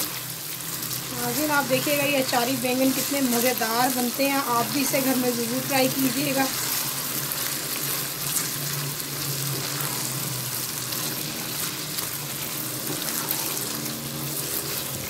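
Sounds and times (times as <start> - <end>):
spatula stirring in wok: 0.0 - 15.0
vegetables sizzling in oil: 0.0 - 15.0.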